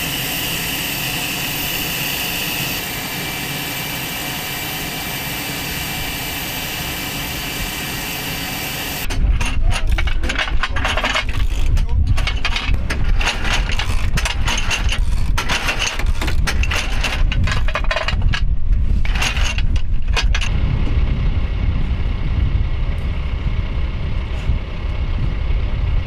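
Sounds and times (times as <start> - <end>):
engine rumble: 0.0 - 26.0.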